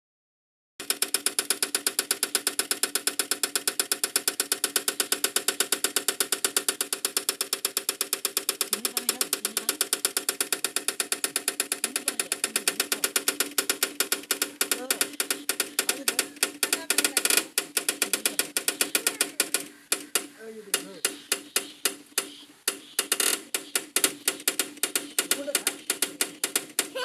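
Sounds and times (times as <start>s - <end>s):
rapid even clicking: 0.8s - 27.0s
tractor engine hum: 0.8s - 27.0s.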